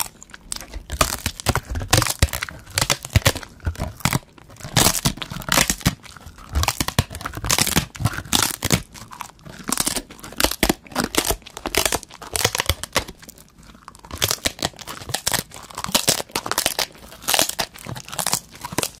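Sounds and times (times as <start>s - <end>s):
chewing crackly paper: 0.0s - 19.0s.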